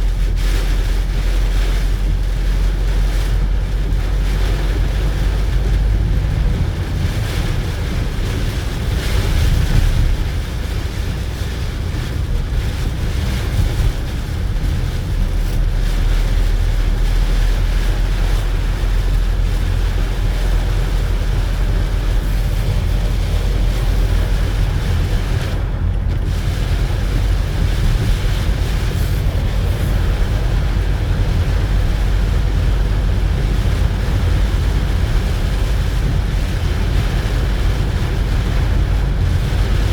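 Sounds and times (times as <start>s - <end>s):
hiss of rain and spray: 0.0s - 39.9s
tyres rumbling on wet road: 0.0s - 39.9s.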